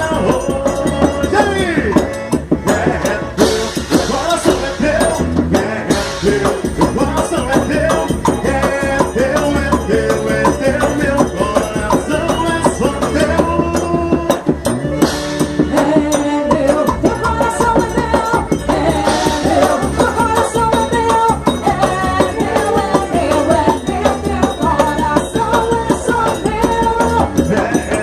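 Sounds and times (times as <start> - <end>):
dance music with shaken percussion: 0.0 - 28.0.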